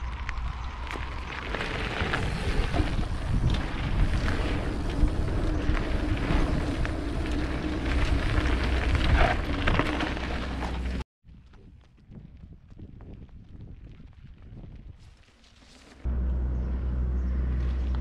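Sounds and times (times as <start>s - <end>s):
wind rumble on microphone: 0.0s - 15.3s
bike tyres crunching on gravel: 0.0s - 16.1s.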